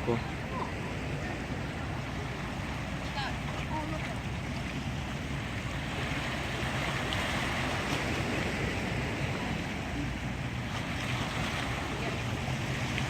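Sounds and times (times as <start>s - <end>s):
water splashing against rocks: 1.6s - 13.0s.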